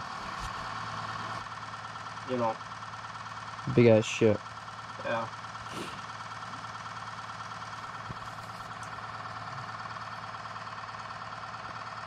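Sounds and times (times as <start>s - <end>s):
constant whine: 0.0s - 12.0s.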